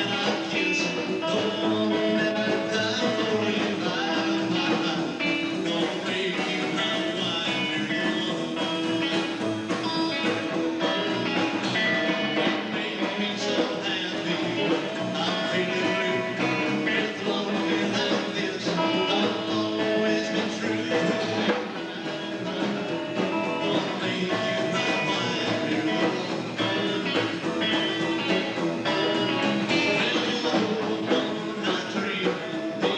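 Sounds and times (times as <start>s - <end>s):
person singing: 0.0s - 32.9s
rock song with electric guitar: 0.0s - 32.9s.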